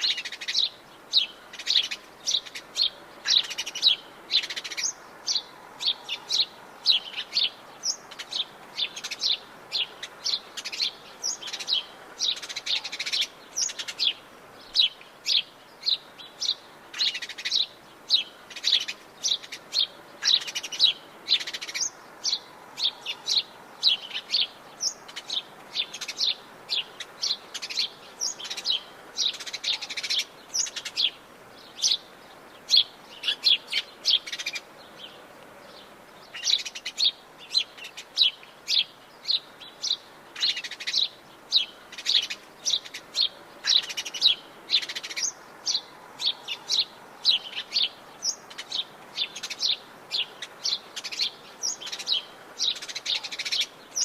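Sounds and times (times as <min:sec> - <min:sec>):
birds chirping and singing: 0:00.0 - 0:54.0
faint background hiss: 0:00.0 - 0:54.0.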